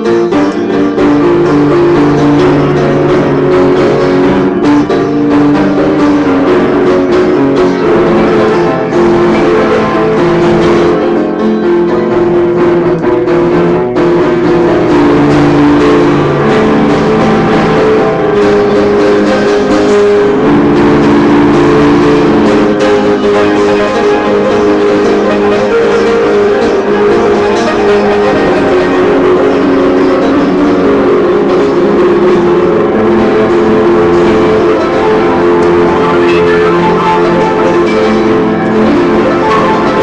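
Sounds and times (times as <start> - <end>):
upright piano playing: 0.0 - 40.0.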